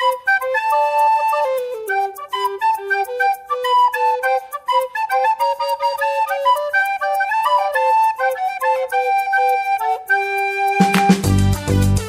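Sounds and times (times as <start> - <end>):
lively flute-like melody: 0.0 - 12.0.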